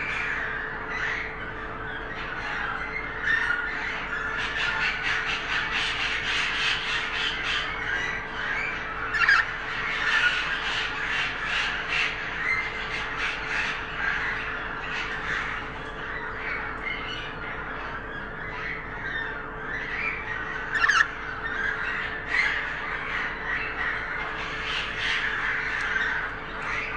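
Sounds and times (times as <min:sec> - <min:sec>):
budgerigars chattering and squawking: 0:00.0 - 0:26.9
steady low hum: 0:00.0 - 0:26.9.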